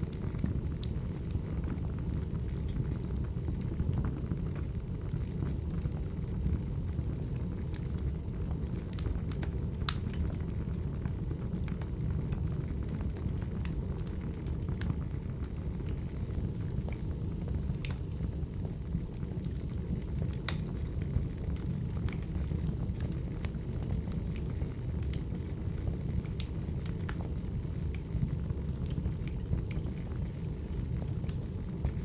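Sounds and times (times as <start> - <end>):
fire rumbling: 0.0 - 32.0
wood crackling and popping: 0.0 - 32.0.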